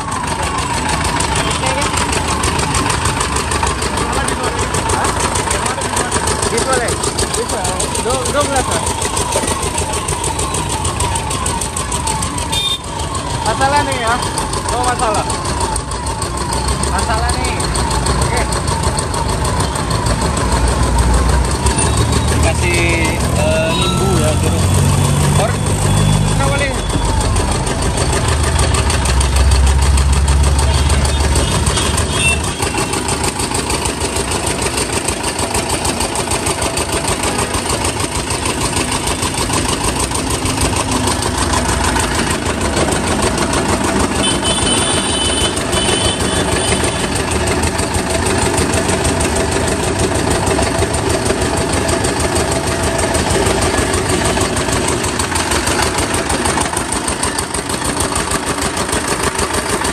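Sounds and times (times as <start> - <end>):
juice crusher engine knocking: 0.0 - 59.9.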